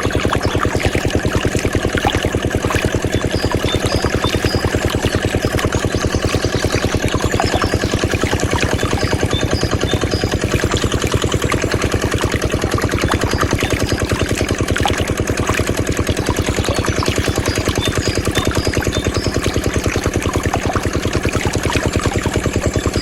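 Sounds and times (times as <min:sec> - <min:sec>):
diesel water pump chugging: 0:00.0 - 0:23.0.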